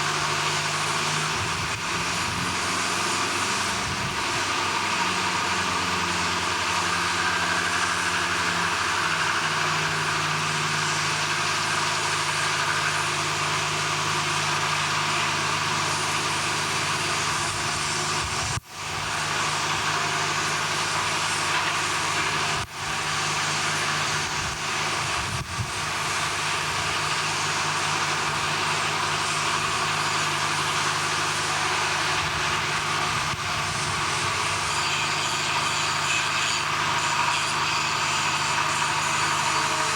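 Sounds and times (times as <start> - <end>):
heavy machinery droning: 0.0 - 39.9.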